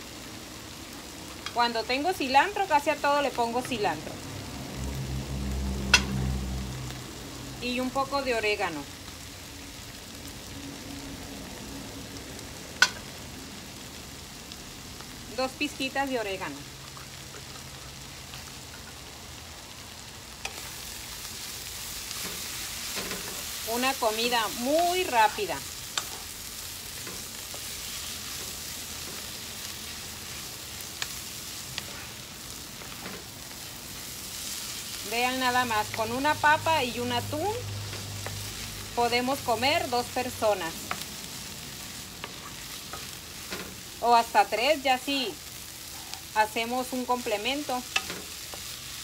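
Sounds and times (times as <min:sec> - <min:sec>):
food sizzling in a pan: 0:00.0 - 0:49.0.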